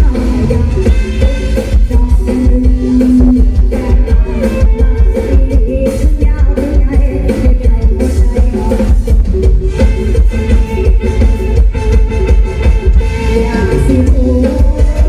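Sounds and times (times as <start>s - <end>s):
person singing: 0.0s - 11.6s, 13.0s - 15.0s
heavy bass: 0.0s - 15.0s
loud band music: 0.0s - 15.0s
steady drum beat: 0.0s - 15.0s.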